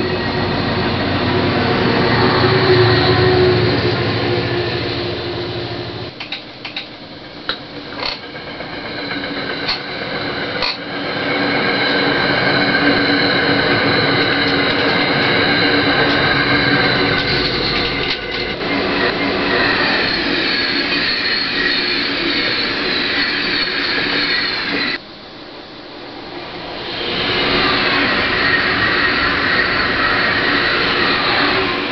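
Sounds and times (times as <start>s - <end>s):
rail noise with high whine: 0.0s - 31.9s
train rumble: 0.0s - 31.9s.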